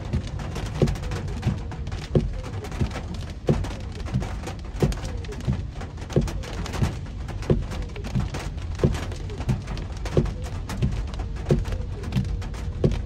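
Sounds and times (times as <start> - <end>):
heavy rain on car glass: 0.0 - 13.0
windscreen wipers thumping: 0.0 - 13.0.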